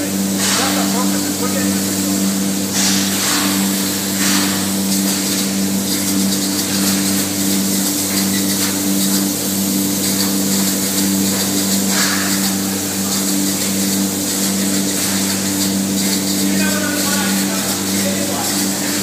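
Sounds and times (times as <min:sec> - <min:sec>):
spray-foam gun hissing: 0:00.0 - 0:19.0
two-tone machinery hum: 0:00.0 - 0:19.0.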